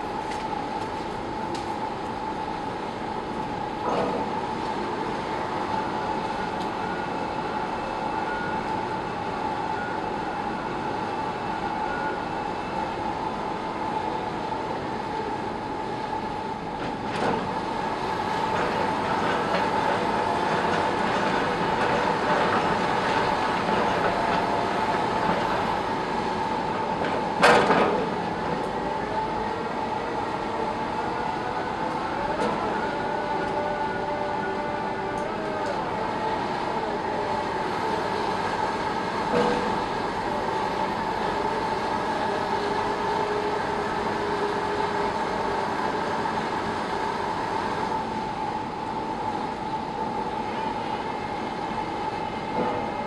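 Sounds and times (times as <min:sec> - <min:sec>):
constant hum-like tone: 0:00.0 - 0:53.0.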